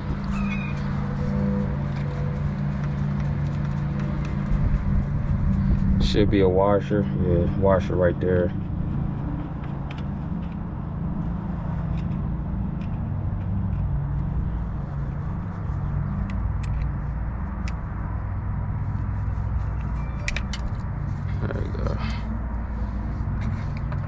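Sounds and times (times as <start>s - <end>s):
low engine drone: 0.0s - 24.0s.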